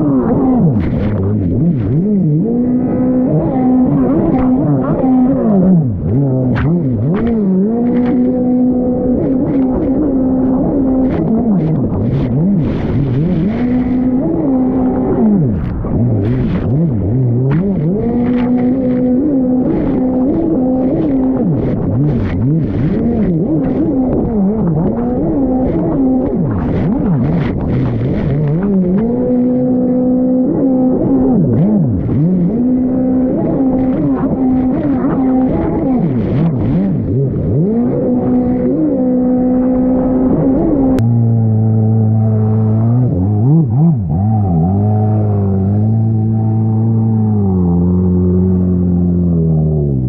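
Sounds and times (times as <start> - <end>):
jet ski engine revving: 0.0 - 50.0.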